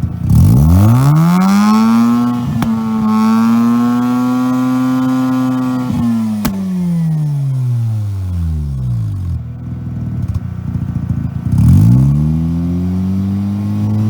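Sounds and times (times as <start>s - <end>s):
race car engine at high revs: 0.0s - 9.2s, 10.9s - 14.0s.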